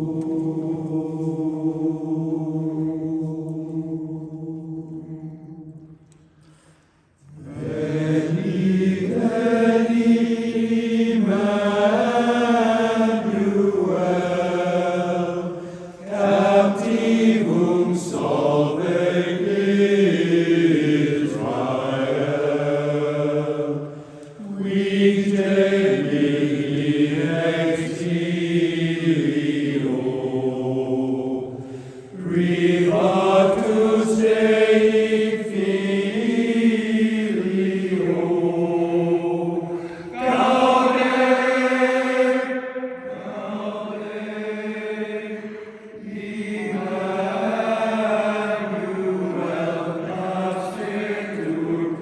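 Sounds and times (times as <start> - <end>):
a cappella chorus singing hymn: 0.0 - 52.0.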